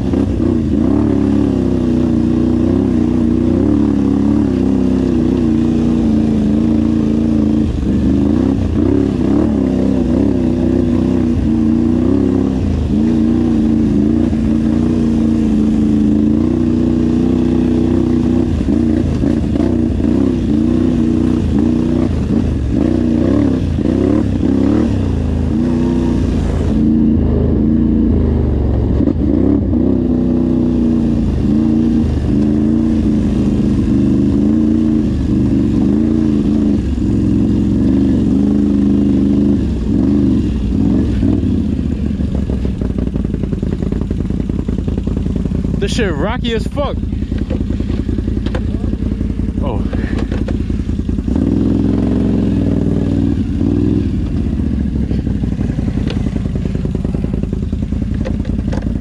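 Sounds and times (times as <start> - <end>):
off-road vehicle engine revving: 0.0 - 59.0.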